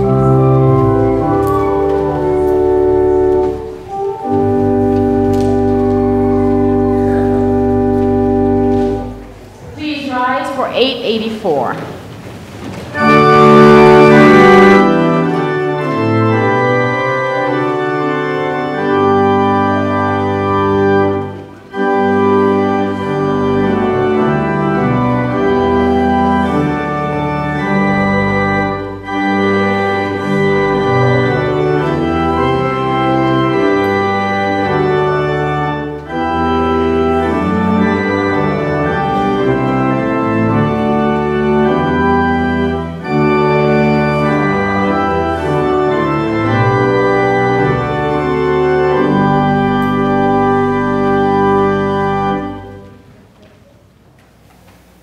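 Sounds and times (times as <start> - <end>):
church organ playing a hymn: 0.0 - 10.7, 12.6 - 53.5.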